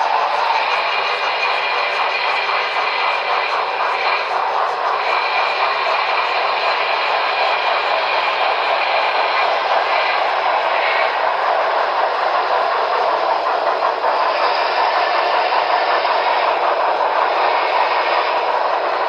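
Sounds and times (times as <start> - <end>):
model train tinny rushing: 0.0 - 19.0.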